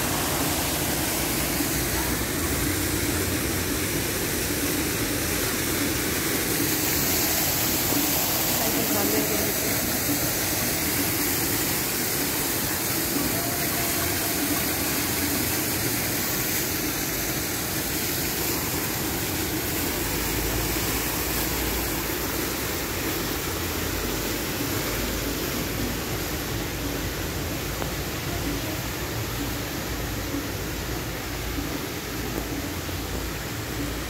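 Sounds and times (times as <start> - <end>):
fountain jet splashing: 0.0 - 34.0
rain falling on water: 0.0 - 34.0.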